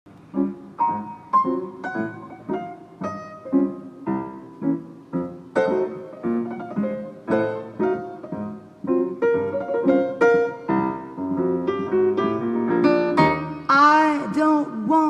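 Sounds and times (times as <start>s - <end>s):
jazz piano chords: 0.1s - 15.0s.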